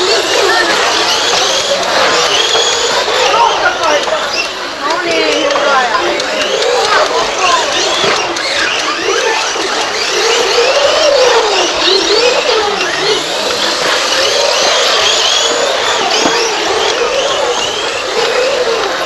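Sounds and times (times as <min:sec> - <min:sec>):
model car motors whining: 0:00.0 - 0:19.0.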